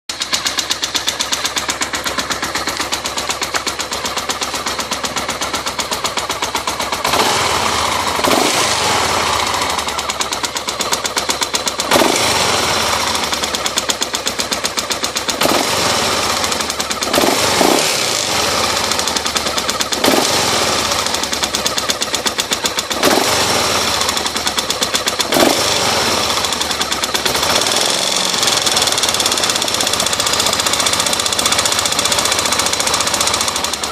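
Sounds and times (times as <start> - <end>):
engine knocking: 0.1 - 33.9.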